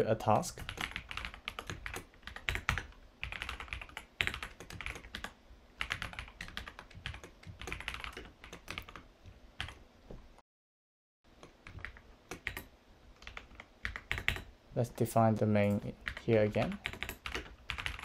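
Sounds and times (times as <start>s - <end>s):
keyboard typing: 0.2s - 9.8s, 11.4s - 14.5s, 15.6s - 18.0s.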